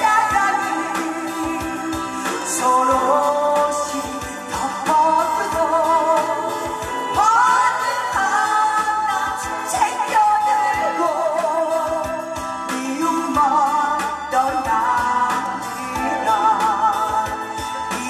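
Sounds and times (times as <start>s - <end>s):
backing track with steady beat: 0.0s - 18.0s
woman singing with vibrato: 0.0s - 18.0s.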